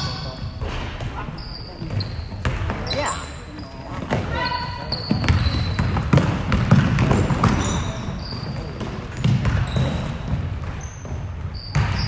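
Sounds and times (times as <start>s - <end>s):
basketball dribbling on gym floor: 0.0s - 12.0s
sneakers squeaking: 0.0s - 12.0s.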